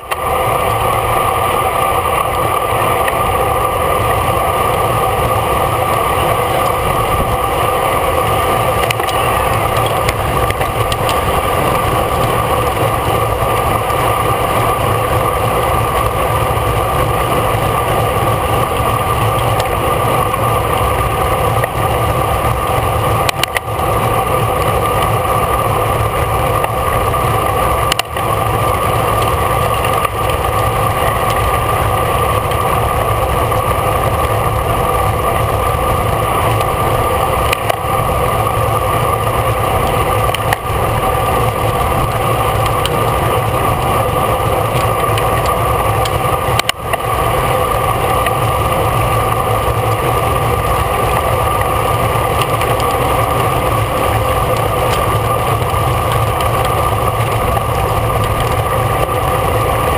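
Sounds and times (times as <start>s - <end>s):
bicycle road noise: 0.0s - 59.9s
constant low hum: 0.0s - 59.9s.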